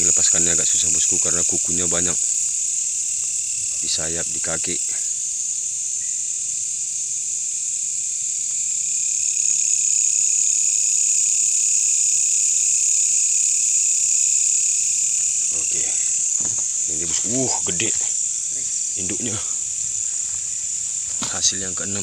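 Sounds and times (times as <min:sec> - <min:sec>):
insects buzzing at night: 0:00.0 - 0:22.0.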